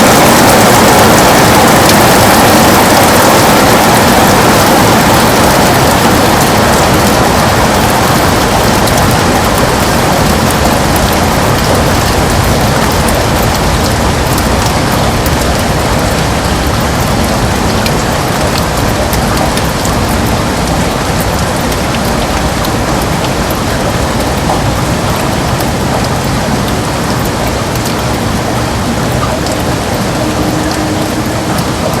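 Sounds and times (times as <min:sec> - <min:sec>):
heavy rain on a window: 0:00.0 - 0:32.0.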